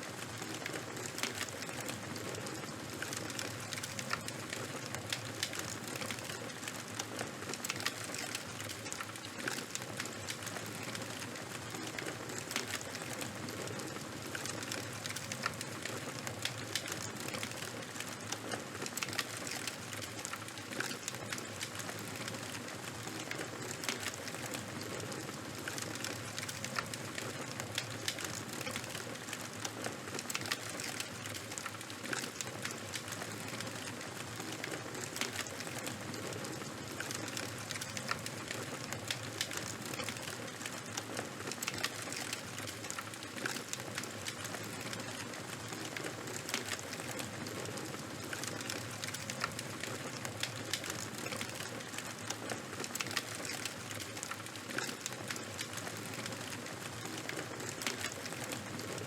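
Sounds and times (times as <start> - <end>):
open fire crackling and popping: 0.0 - 59.0.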